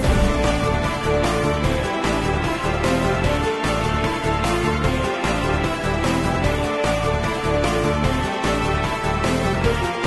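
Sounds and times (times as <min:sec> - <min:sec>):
soundtrack music with heavy bass: 0:00.0 - 0:10.0.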